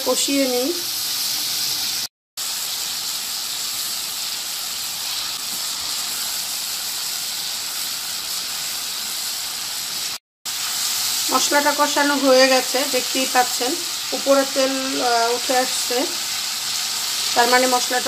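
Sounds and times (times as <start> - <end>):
spice paste sizzling in a wok: 0.0 - 18.0.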